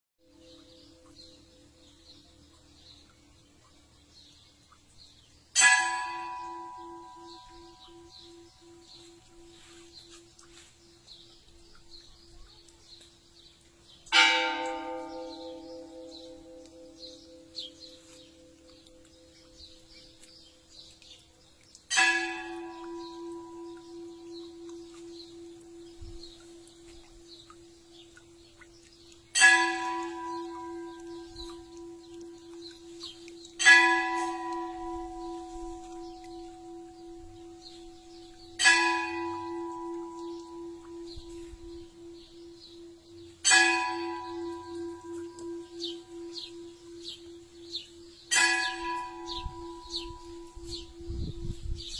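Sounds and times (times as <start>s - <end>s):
church bell tolling: 5.6s - 13.0s, 14.1s - 20.7s, 21.9s - 51.9s.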